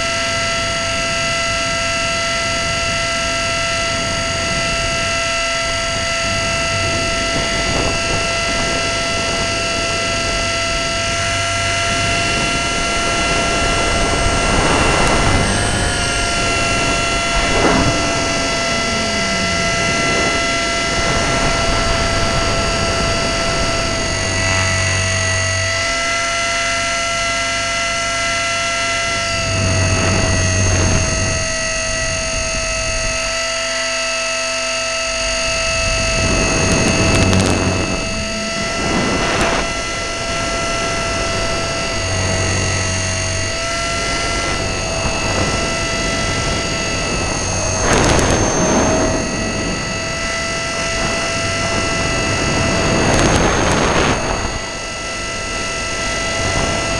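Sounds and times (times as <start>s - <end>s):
helicopter motor whine: 0.0s - 56.9s
rotor and wind noise: 0.0s - 56.9s.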